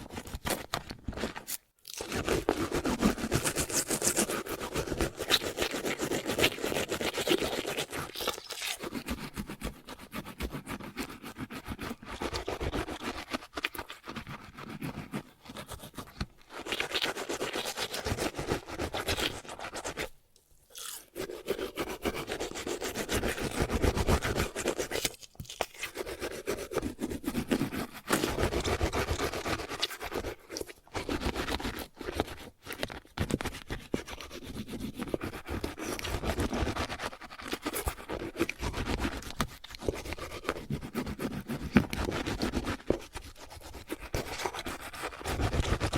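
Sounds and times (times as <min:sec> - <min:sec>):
toothbrush scrubbing teeth: 0:01.9 - 0:20.1, 0:20.7 - 0:45.9.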